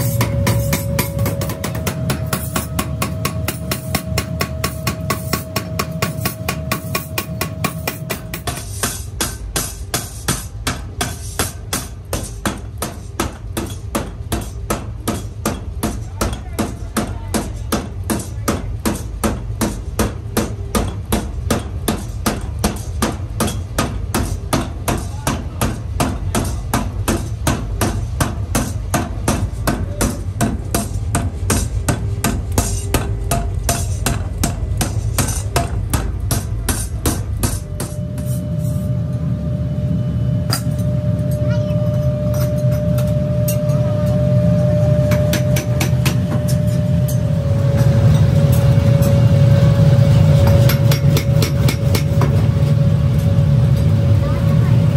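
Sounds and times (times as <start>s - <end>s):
hammer striking metal: 0.0s - 39.2s, 40.4s - 53.4s
low machine hum: 0.0s - 54.9s.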